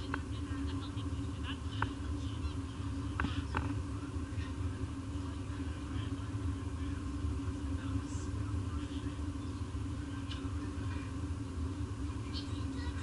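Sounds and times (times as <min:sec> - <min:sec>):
ship machinery rumble and hum: 0:00.0 - 0:13.0.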